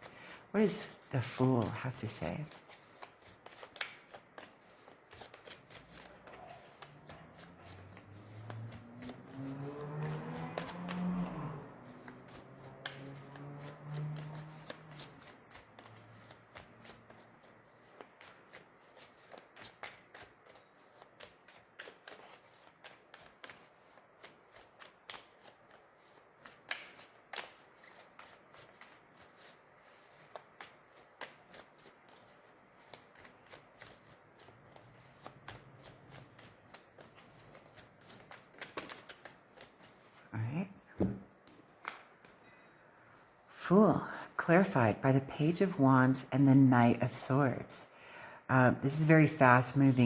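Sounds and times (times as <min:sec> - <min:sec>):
cards being shuffled: 0:00.6 - 0:40.3, 0:41.4 - 0:42.4.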